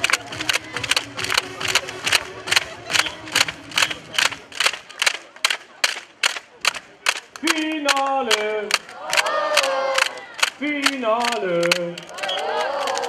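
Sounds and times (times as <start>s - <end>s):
sharp claps in even beat: 0.0s - 13.0s.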